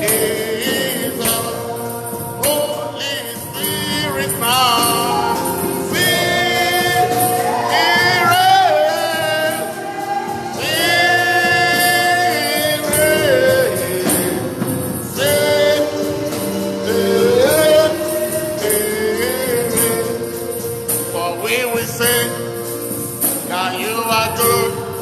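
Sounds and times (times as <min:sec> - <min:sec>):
instrumental backing: 0:00.0 - 0:25.0
voices singing worship: 0:00.0 - 0:25.0.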